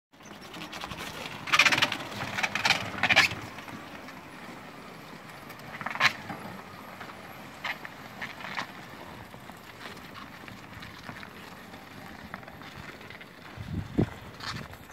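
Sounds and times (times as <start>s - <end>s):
tracked wheelchair running: 0.1s - 14.9s.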